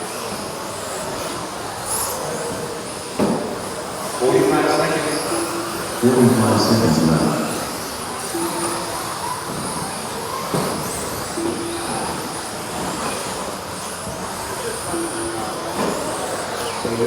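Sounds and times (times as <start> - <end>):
rc truck motors whining: 0.0 - 17.0.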